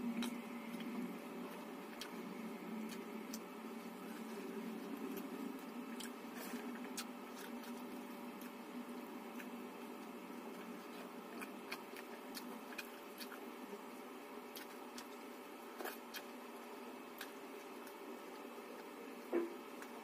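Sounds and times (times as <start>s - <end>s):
chewing: 0.0s - 20.0s
eating by hand: 0.0s - 20.0s
faint steady hum: 0.0s - 20.0s.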